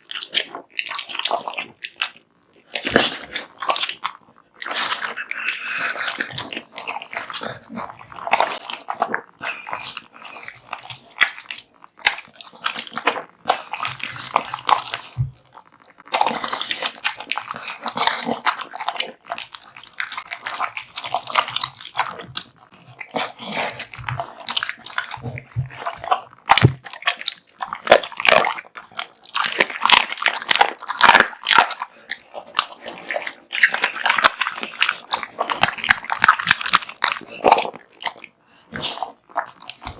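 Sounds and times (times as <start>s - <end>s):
bones cracking: 0.0s - 39.9s
dog chewing meat and bones: 0.0s - 39.9s.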